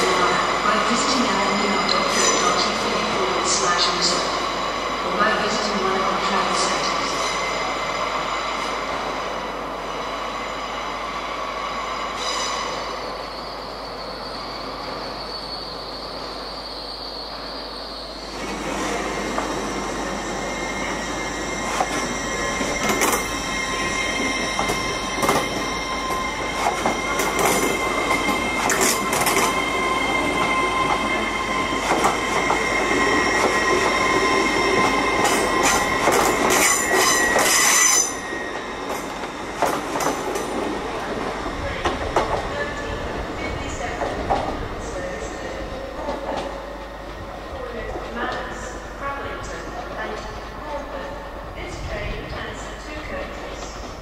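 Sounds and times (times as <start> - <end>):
train wheels squealing: 0.1 - 47.5.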